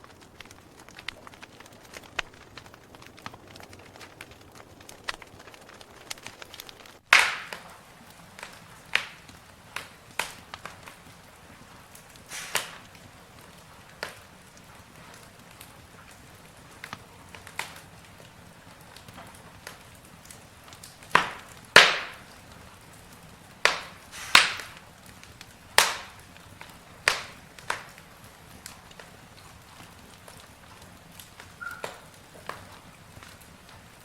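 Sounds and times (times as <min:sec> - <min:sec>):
faint steady hiss: 0:00.0 - 0:34.0
wood fire crackling: 0:00.0 - 0:34.0.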